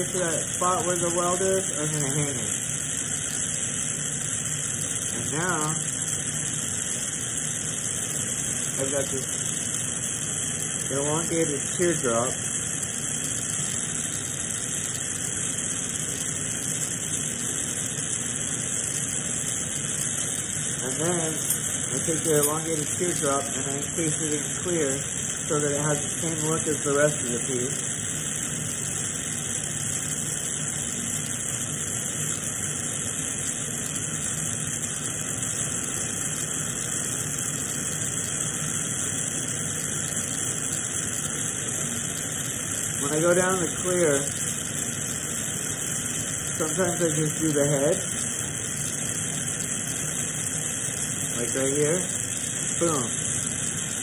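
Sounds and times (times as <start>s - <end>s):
torch flame rushing: 0.0s - 54.0s.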